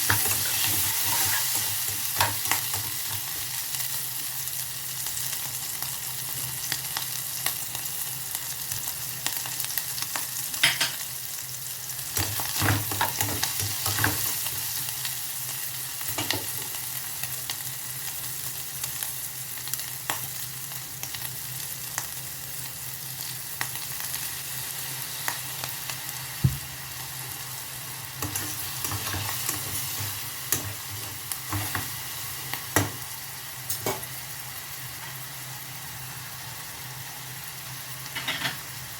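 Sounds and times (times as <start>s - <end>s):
vegetables sizzling in a frying pan: 0.0s - 38.9s.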